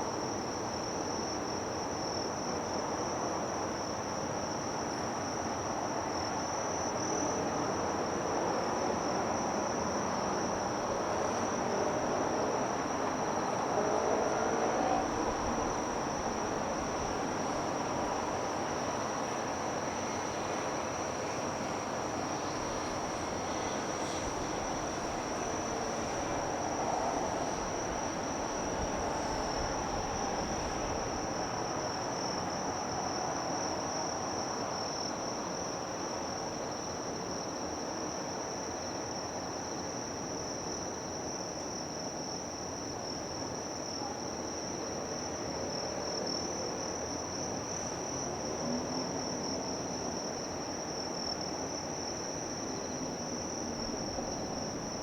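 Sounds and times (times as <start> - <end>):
insect chorus trilling: 6.2 - 20.3, 21.9 - 55.0.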